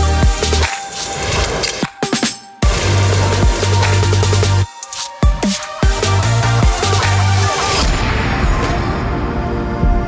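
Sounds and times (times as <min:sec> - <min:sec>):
electronic music with bass and drums: 0:00.0 - 0:09.1.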